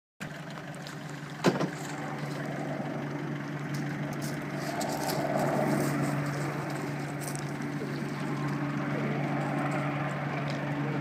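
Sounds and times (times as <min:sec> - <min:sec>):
distant helicopter drone: 0:01.1 - 0:11.0.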